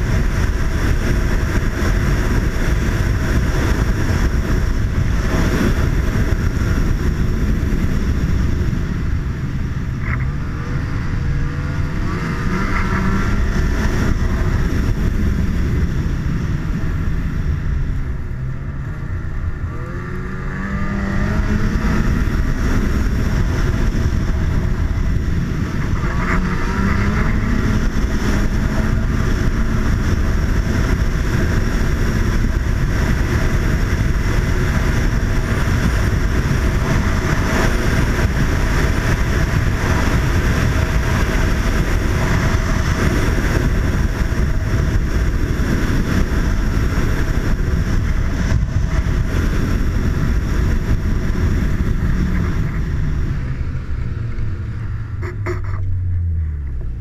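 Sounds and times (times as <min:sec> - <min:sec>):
snowmobile engine under throttle: 0:00.0 - 0:57.0.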